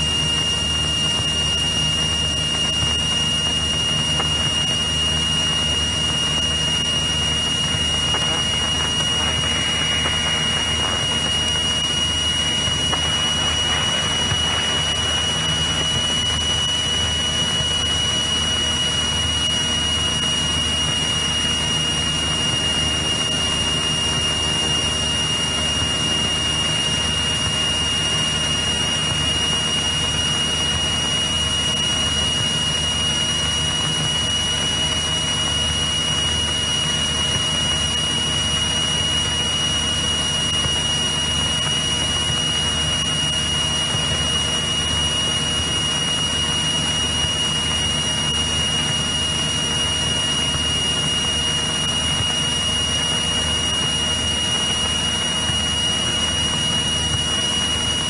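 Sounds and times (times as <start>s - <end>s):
airplane engine droning: 0.0s - 58.0s
steady high whine: 0.0s - 58.0s.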